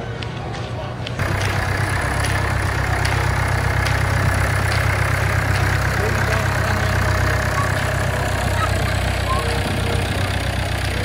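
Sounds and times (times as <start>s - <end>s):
tractor engine running: 0.3s - 11.0s.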